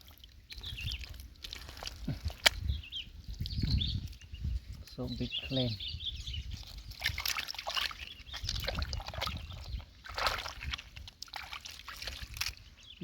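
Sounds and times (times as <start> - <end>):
hands squelching in wet mud: 0.0 - 5.2, 6.4 - 13.0.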